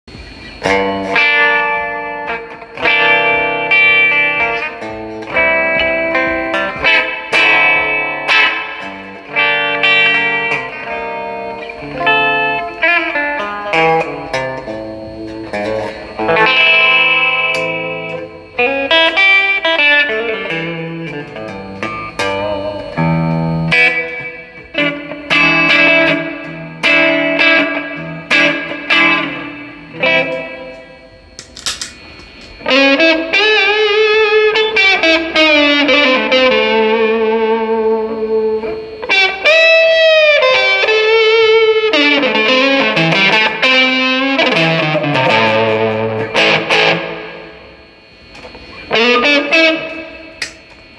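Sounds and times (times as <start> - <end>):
electric guitar lead line: 0.1 - 50.9.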